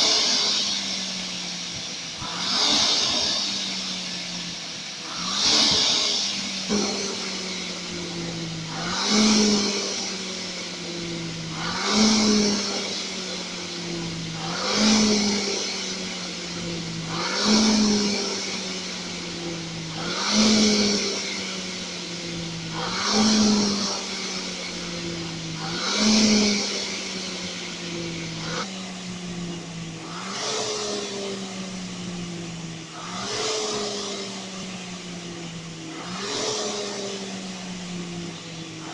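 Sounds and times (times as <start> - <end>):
rowing machine flywheel whirring: 0.0 - 38.9.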